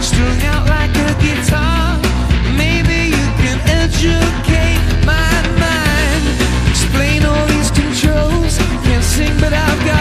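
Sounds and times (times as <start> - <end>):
drums: 0.0 - 10.0
person singing: 0.0 - 10.0
steady low notes: 0.0 - 10.0.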